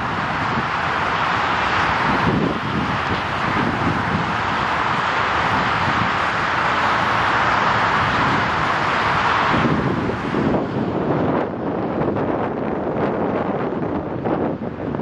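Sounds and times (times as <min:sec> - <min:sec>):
jet engine roar: 0:00.0 - 0:15.0
wind buffeting microphone: 0:00.0 - 0:15.0.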